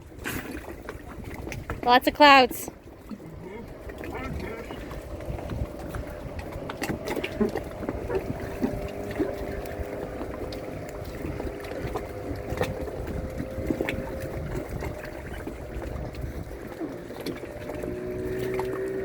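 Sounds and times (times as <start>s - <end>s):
muffled water noise: 0.0s - 19.0s.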